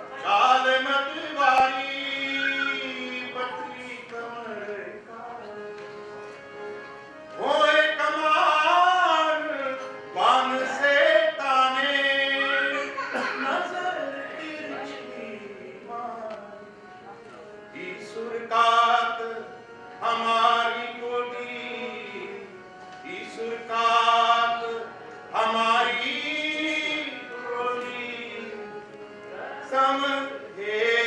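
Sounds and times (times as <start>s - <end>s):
person singing folk melody: 0.0s - 6.2s, 7.2s - 31.0s.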